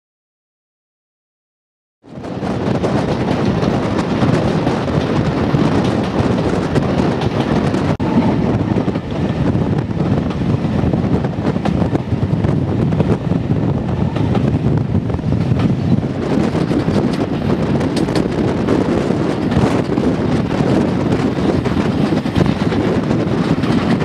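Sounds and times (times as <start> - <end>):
train running noise: 2.0 - 24.0
wind rushing over microphone: 2.0 - 24.0.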